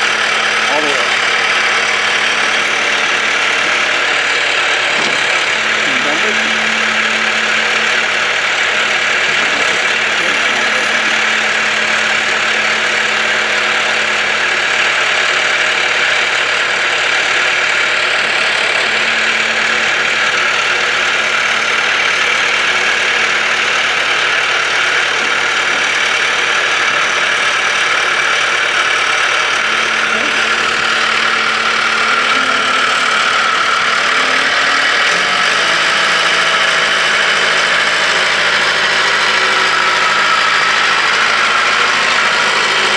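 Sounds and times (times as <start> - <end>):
loader engine idling: 0.0 - 42.9.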